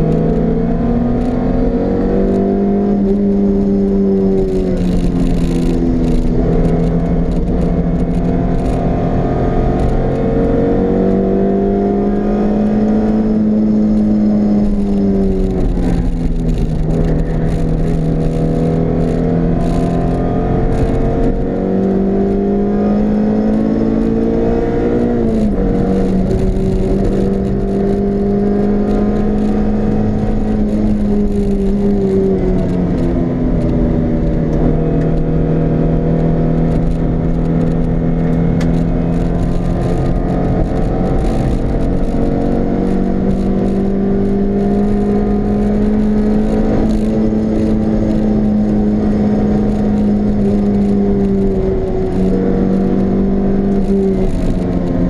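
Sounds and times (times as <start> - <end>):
car engine accelerating through gears: 0.0 - 55.0
road and wind noise: 0.0 - 55.0.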